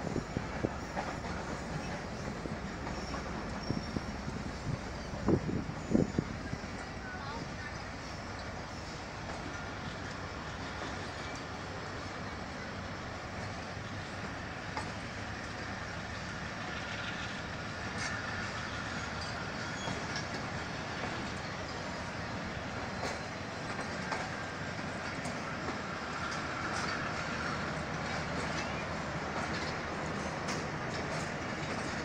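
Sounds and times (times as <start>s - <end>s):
train wheels rumbling on rails: 0.0s - 32.0s
wheels clicking over rail joints: 0.0s - 32.0s.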